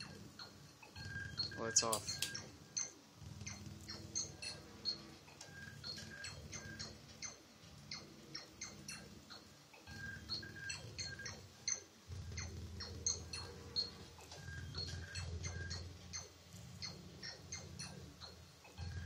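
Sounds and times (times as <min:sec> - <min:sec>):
electronic clicks and beeps: 0:00.0 - 0:19.0
low electronic hum: 0:00.0 - 0:19.0.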